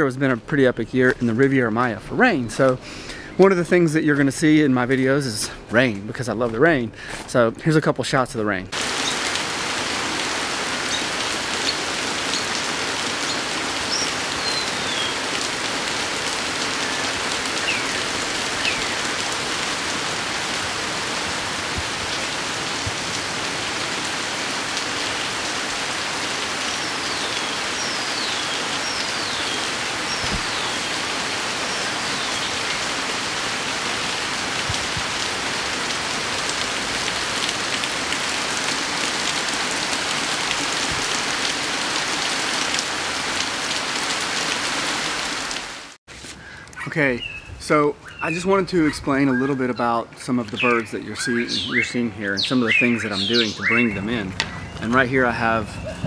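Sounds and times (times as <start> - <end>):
heavy rain on foliage: 8.7 - 48.5, 49.2 - 56.0.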